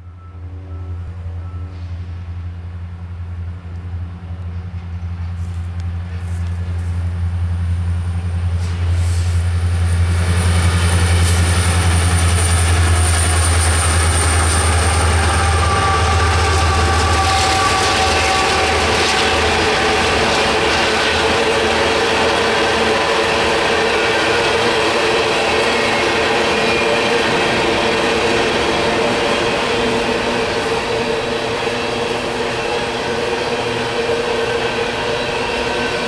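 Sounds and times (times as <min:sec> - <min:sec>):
diesel locomotive engine drone: 0:00.0 - 0:36.0
train wheel and rail noise: 0:00.0 - 0:36.0.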